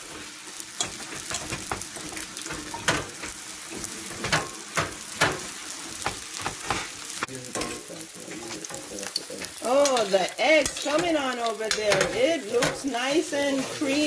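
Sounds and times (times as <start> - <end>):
dough sizzling in hot oil: 0.0 - 14.0
oil crackling and popping: 0.0 - 14.0.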